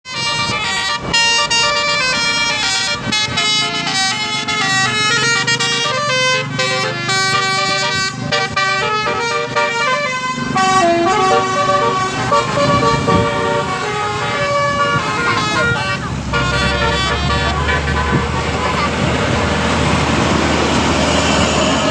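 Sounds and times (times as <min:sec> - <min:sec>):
multi-tone bus air horns: 0:00.0 - 0:21.9
low engine rumble: 0:00.1 - 0:21.9.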